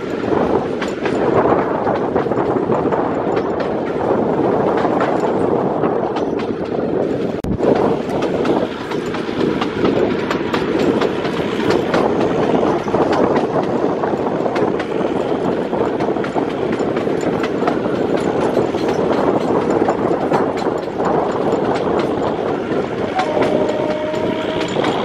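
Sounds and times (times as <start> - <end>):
train rumble: 0.0 - 25.0
wheels clattering over rail joints: 0.0 - 25.0.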